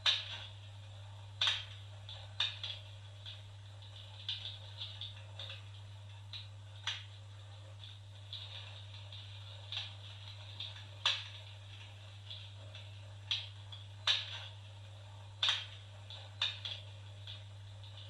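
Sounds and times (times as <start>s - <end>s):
electric fireplace crackles: 0.0s - 18.0s.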